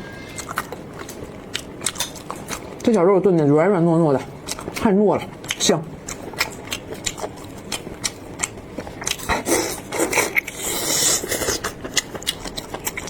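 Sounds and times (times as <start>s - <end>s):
wet chewing of meat: 0.2s - 13.0s.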